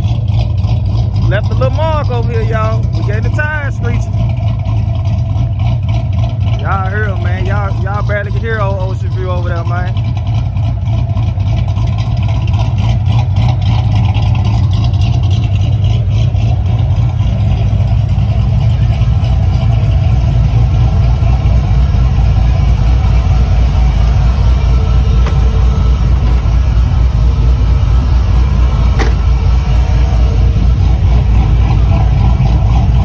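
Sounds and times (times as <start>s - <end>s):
engine exhaust rumble: 0.0s - 33.0s.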